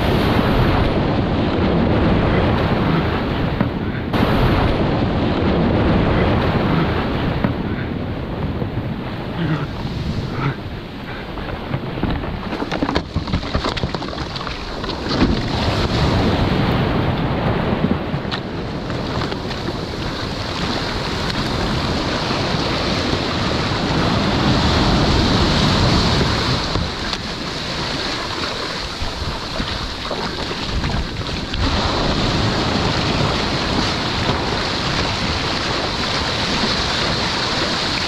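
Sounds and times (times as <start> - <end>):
surf rushing and churning: 0.0 - 38.0
wind buffeting the microphone: 0.0 - 38.0.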